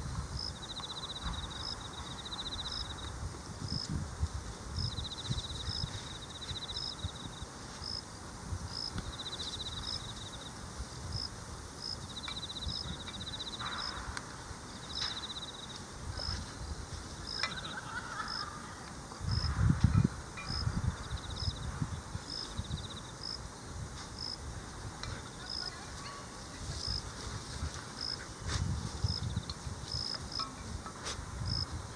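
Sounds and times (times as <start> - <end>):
insects high chirps: 0.0 - 31.9
insects trilling: 0.2 - 31.9.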